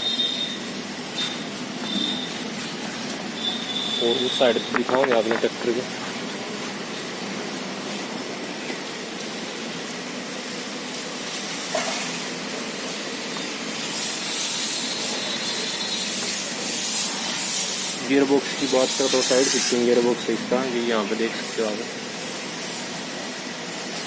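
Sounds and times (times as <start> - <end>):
steady hissing noise: 0.6 - 24.0.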